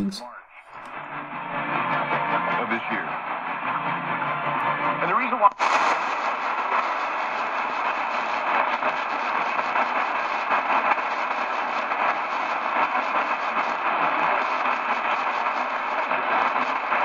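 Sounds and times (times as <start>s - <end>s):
radio static hiss: 0.0s - 1.0s, 2.5s - 3.5s, 4.8s - 17.0s.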